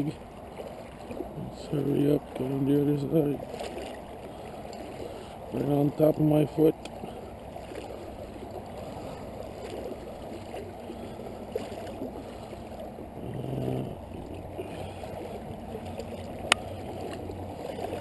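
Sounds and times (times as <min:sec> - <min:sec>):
water sloshing around wading legs: 0:00.0 - 0:18.0.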